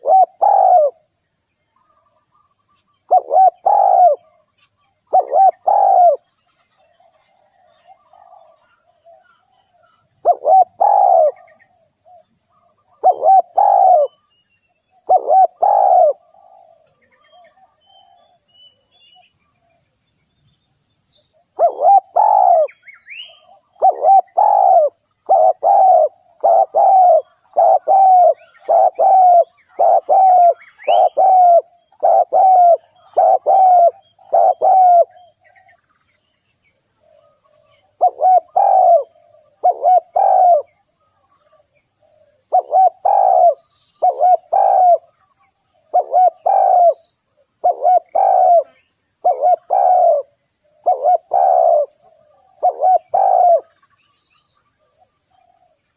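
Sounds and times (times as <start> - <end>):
dove cooing: 0.0 - 1.1, 3.0 - 6.3, 6.9 - 14.2, 14.9 - 18.5, 21.4 - 35.7, 37.0 - 45.2, 45.8 - 47.0, 47.6 - 53.8
faint steady high whine: 0.0 - 55.9.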